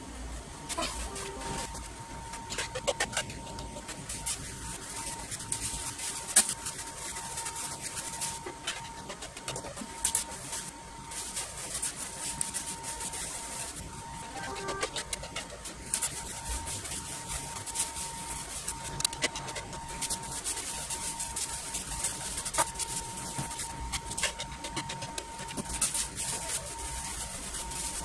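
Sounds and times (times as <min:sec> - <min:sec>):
faint steady tone: 0:00.0 - 0:28.0
paintbrush scratchy strokes: 0:00.8 - 0:28.0.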